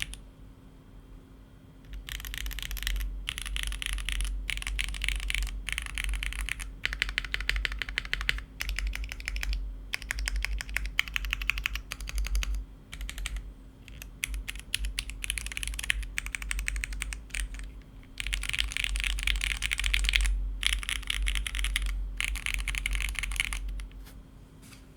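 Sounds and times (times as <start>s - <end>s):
mechanical keyboard key clacks: 1.9s - 23.9s.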